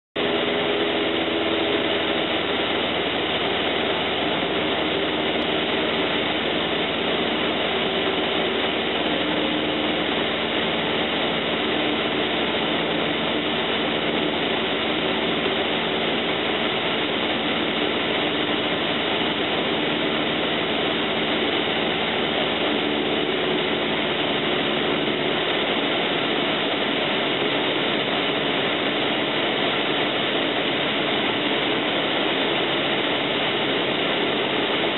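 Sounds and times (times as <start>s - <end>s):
aircraft engine and propeller droning: 0.2s - 34.9s
rushing airflow: 0.2s - 34.9s.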